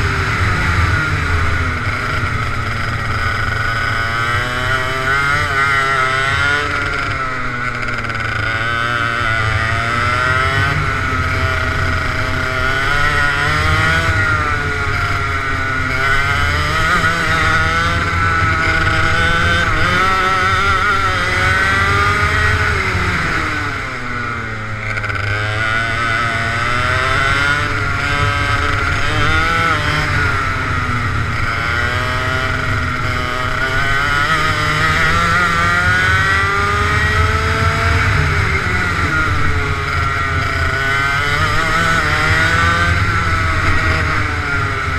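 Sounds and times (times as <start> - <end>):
kart engine revving: 0.0 - 44.9.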